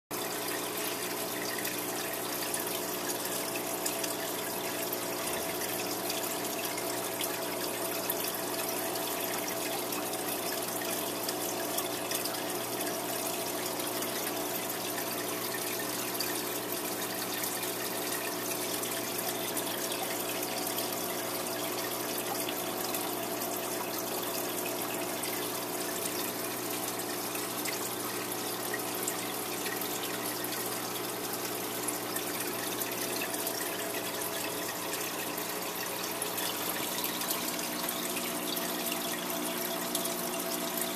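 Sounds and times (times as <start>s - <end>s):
pump humming: 0.1s - 40.9s
water trickling and bubbling: 0.1s - 40.9s.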